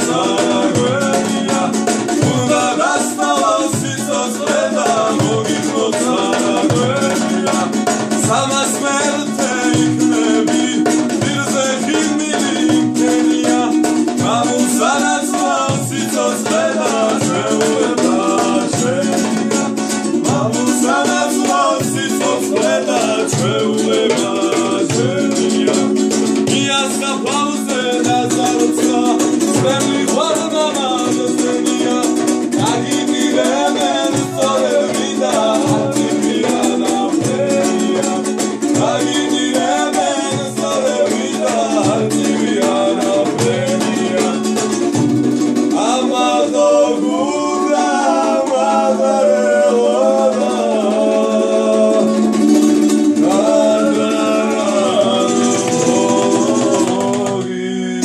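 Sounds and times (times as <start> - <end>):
lute strummed fast: 0.0 - 58.0
man singing: 0.0 - 58.0.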